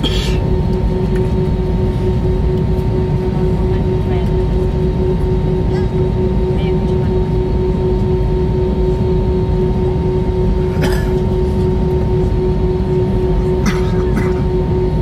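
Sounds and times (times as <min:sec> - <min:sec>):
aircraft cabin rumble: 0:00.0 - 0:15.0
constant hum: 0:00.0 - 0:15.0.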